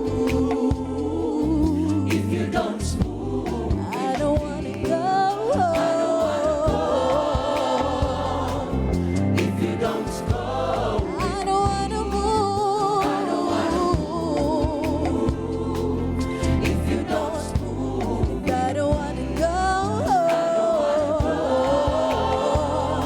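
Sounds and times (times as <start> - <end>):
backing choir voices: 0.0 - 23.0
band with bass and drums: 0.0 - 23.0
lead singer with vibrato: 0.0 - 23.0.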